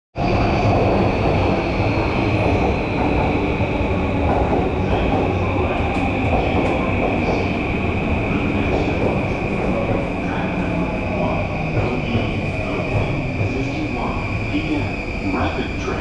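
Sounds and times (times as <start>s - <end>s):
train high whine: 0.2s - 16.0s
train interior rumble: 0.2s - 16.0s.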